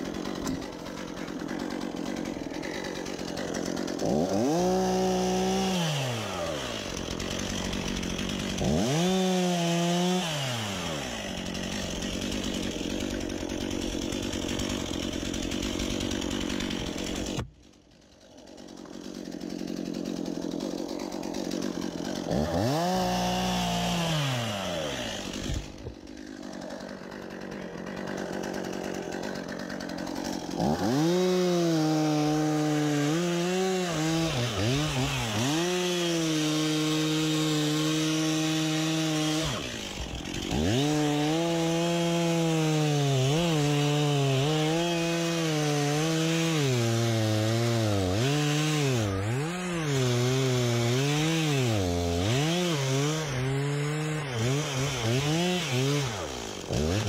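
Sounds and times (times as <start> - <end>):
chainsaw cutting tree trunk: 0.0 - 57.0.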